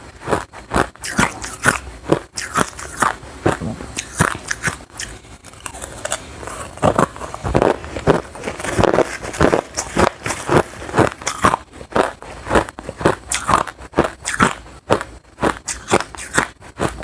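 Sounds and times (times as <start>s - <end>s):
crunching ice chewing: 0.1s - 17.0s.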